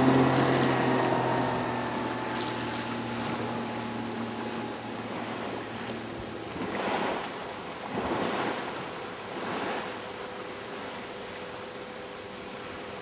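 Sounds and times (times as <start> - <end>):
faint steady engine hum: 0.0 - 13.0
rushing water wash: 0.0 - 13.0
spray and wake splashing: 0.0 - 13.0.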